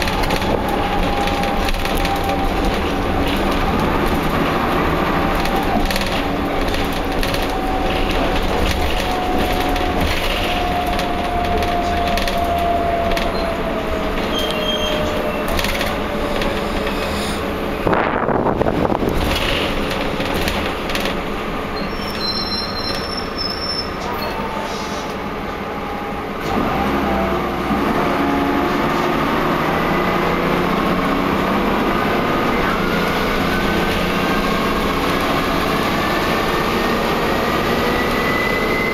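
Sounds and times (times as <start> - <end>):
bus drivetrain whine: 0.0 - 38.9.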